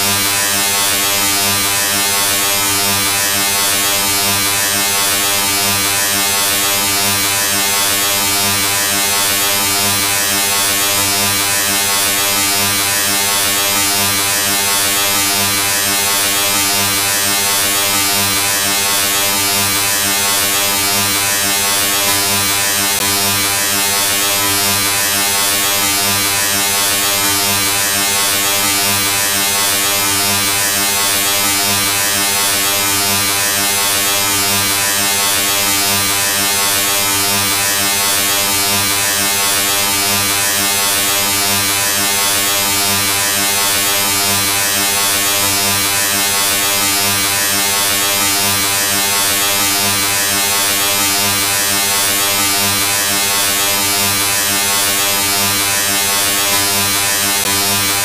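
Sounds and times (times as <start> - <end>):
harsh electric buzz: 0.0 - 58.0.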